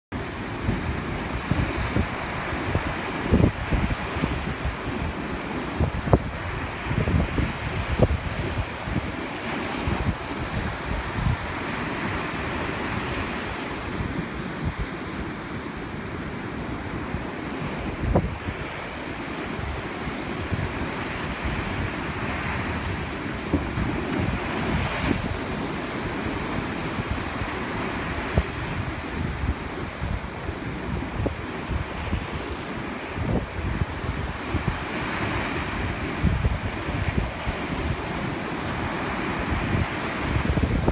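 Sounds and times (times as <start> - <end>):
surf breaking on rocks: 0.1 - 40.9
wind rumbling on microphone: 0.1 - 40.9.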